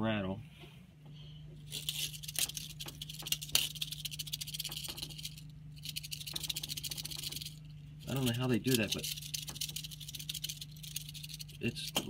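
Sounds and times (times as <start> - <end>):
steady low hum: 0.0 - 12.0
rattlesnake rattle shaken by hand: 1.7 - 12.0.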